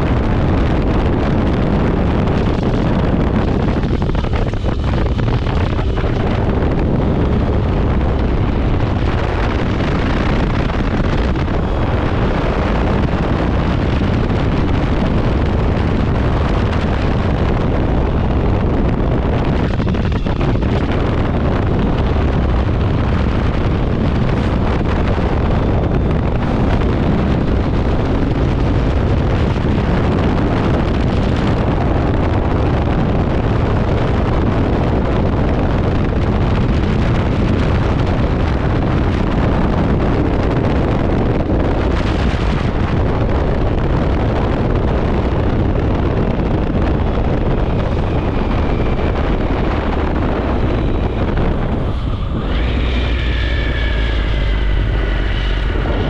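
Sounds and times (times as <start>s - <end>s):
motorcycle engine: 0.0s - 56.0s
tyre road noise: 0.0s - 56.0s
wind rush on microphone: 0.0s - 56.0s.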